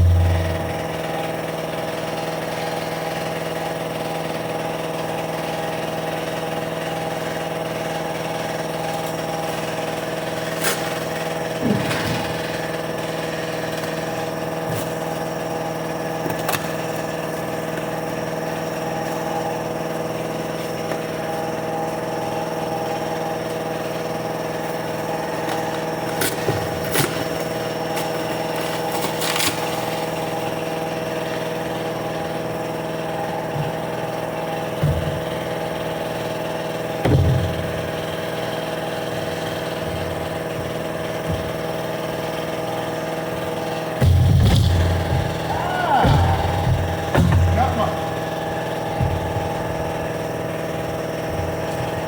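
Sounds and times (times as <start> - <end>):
air compressor humming: 0.0 - 52.0.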